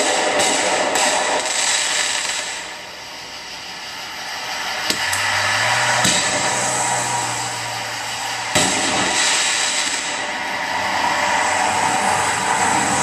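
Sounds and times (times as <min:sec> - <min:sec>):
fireworks bangs: 0:00.0 - 0:13.0
steady hiss: 0:00.0 - 0:13.0.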